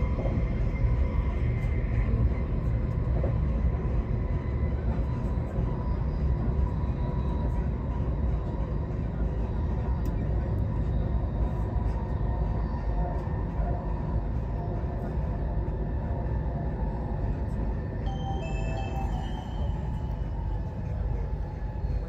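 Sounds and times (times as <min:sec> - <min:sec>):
faint steady whine: 0:00.0 - 0:22.0
train wheels rumbling on rail: 0:00.0 - 0:22.0.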